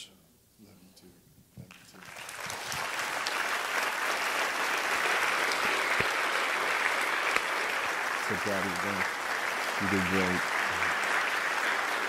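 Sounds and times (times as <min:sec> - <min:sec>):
congregation applauding: 0:01.7 - 0:12.0.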